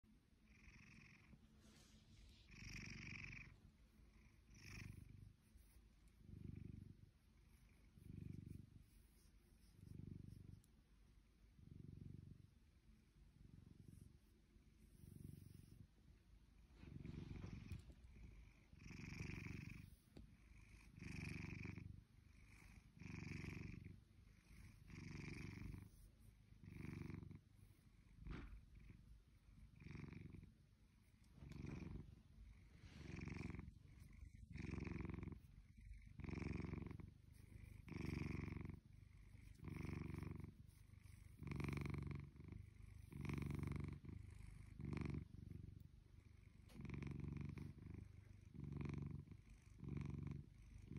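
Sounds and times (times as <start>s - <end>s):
cat purring: 0.0s - 50.9s.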